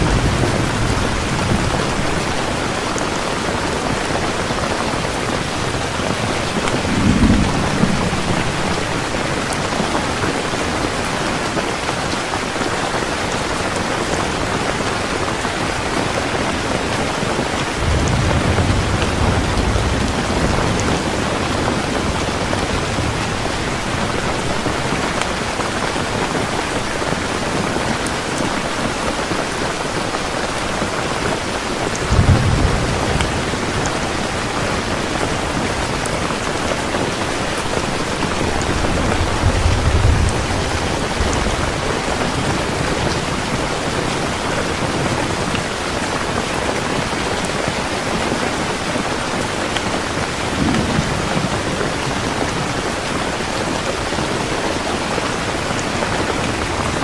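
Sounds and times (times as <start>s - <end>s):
thunder rumbles: 0.0s - 14.6s, 15.6s - 28.0s, 30.7s - 47.7s, 50.1s - 57.0s
heavy rain pouring: 0.0s - 57.0s.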